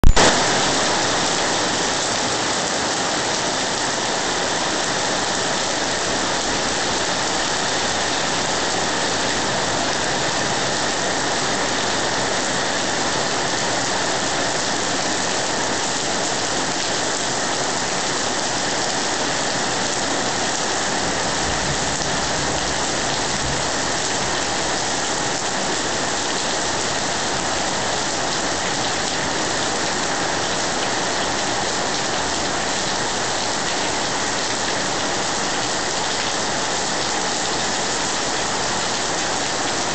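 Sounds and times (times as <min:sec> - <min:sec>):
heavy rain on roofs and foliage: 0:00.0 - 0:39.9.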